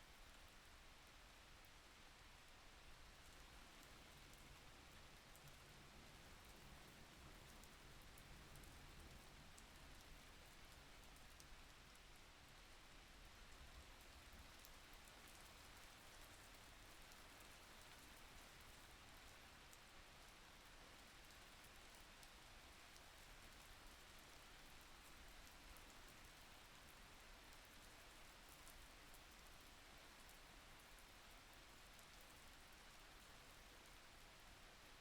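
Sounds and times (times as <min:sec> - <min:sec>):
light rain patter: 0:00.0 - 0:35.0.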